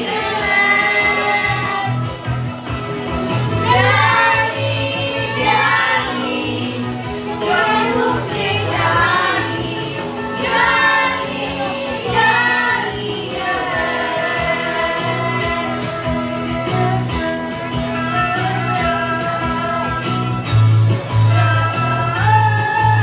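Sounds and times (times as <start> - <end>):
women singing through a pa: 0.0 - 2.1, 3.6 - 20.0
amplified backing music: 0.0 - 23.0.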